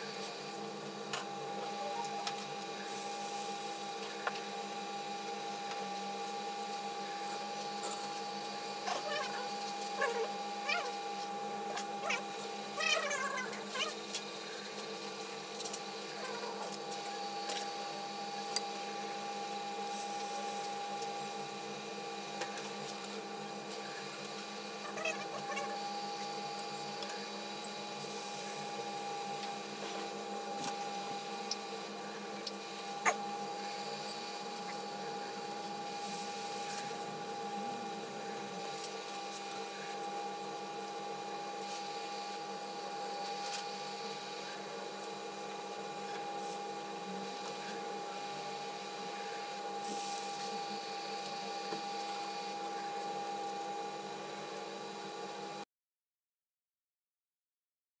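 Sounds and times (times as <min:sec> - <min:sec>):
machine hum with whine: 0:00.0 - 0:55.6.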